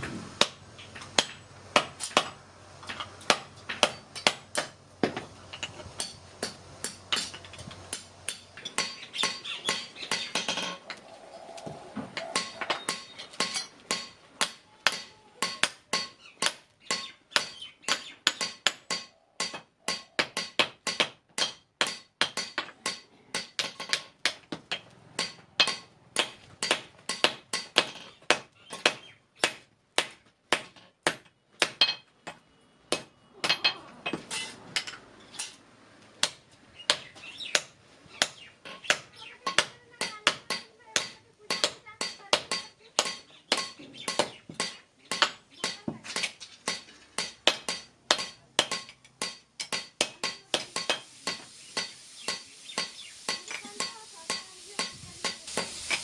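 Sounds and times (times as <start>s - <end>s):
hammer striking steel on anvil: 0.4s - 10.8s, 12.2s - 35.6s, 36.2s - 56.0s.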